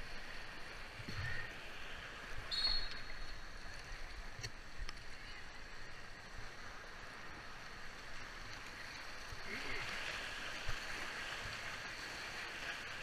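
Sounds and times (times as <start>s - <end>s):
rushing churning river water: 0.0s - 13.0s.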